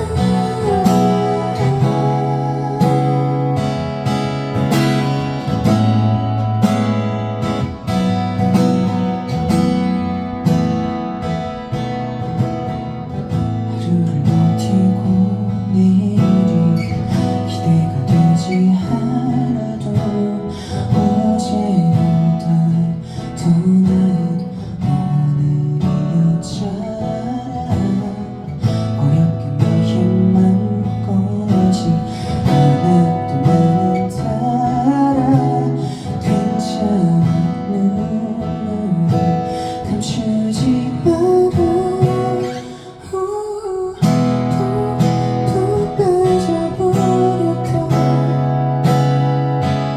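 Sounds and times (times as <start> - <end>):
acoustic guitar strumming: 0.0 - 49.9
picked guitar melody: 0.0 - 49.9.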